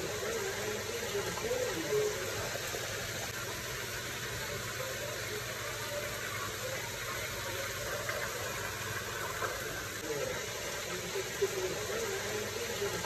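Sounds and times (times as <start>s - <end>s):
water bubbling at a rolling boil: 0.0s - 13.0s.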